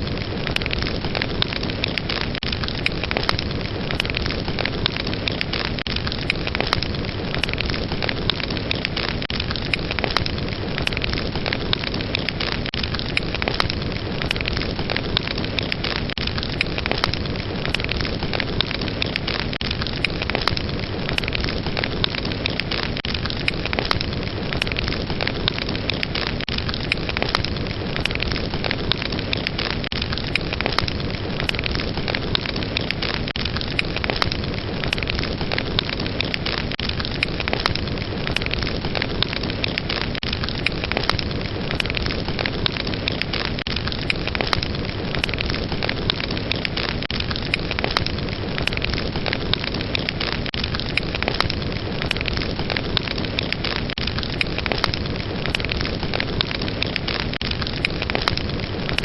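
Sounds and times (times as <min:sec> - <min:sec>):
fire burning with crackles: 0:00.0 - 0:59.0.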